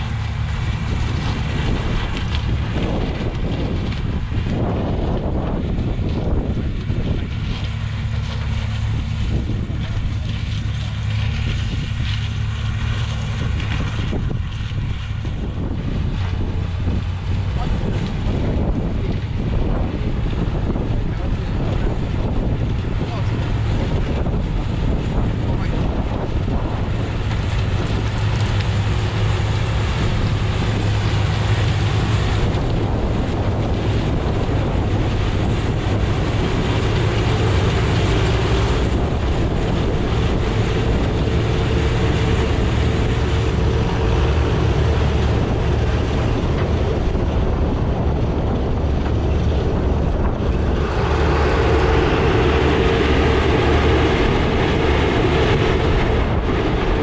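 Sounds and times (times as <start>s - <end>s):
diesel machinery humming: 0.0s - 57.0s.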